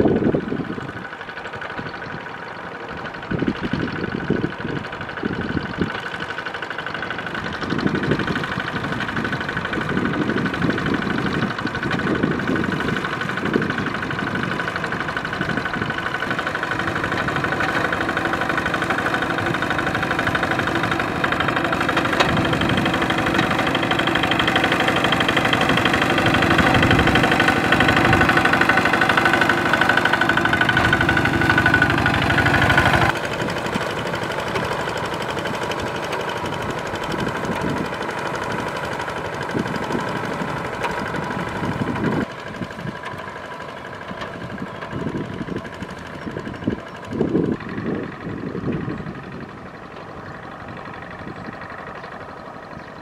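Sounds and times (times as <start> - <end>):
tractor engine knocking: 0.0 - 53.0
wheels dragging through water: 0.0 - 53.0.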